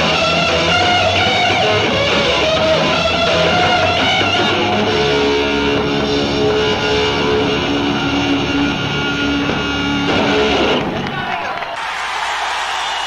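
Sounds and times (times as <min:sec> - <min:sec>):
distorted electric guitar: 0:00.0 - 0:11.4.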